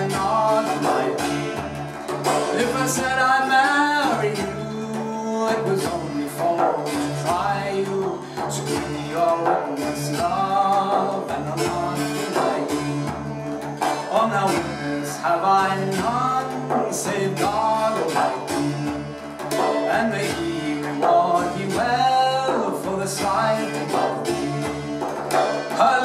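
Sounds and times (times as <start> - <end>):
bouzouki strummed: 0.0 - 26.0
frame drum struck by hand: 0.0 - 26.0
man singing: 0.0 - 26.0.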